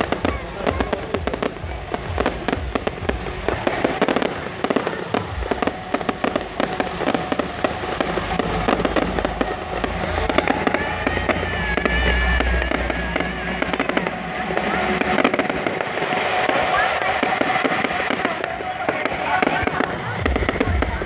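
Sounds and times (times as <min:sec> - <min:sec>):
high held melody: 0:00.0 - 0:21.0
loud bass-heavy music: 0:00.0 - 0:21.0.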